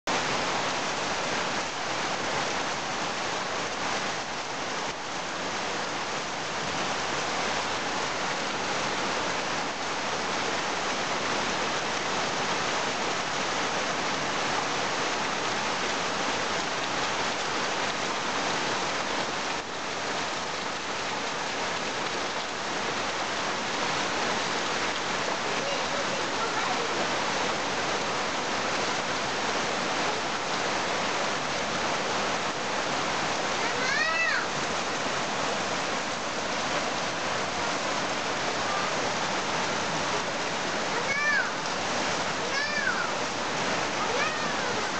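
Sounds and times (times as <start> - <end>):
heavy rain pouring: 0.1 - 44.9.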